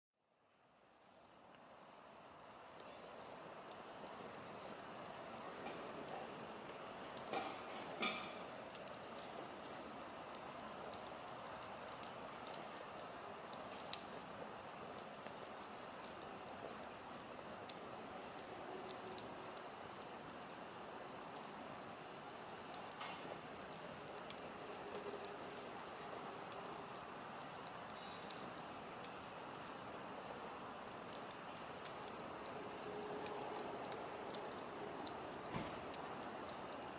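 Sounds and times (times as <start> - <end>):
wood fire crackling and popping: 0.5 - 36.9.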